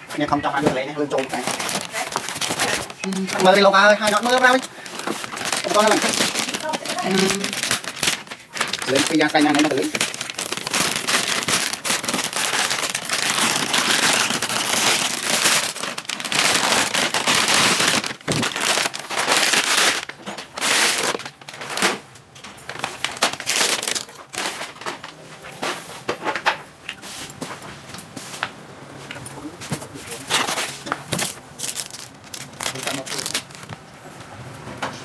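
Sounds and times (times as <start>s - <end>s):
plastic bags crinkling: 0.6s - 25.2s, 29.2s - 33.8s.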